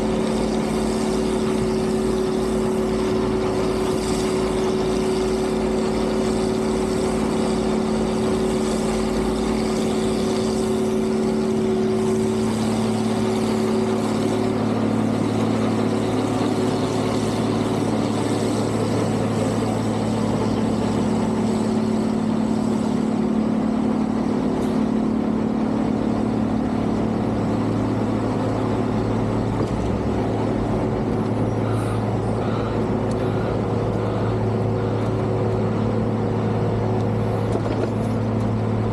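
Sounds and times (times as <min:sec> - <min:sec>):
heavy vehicle engines running: 0:00.0 - 0:38.9.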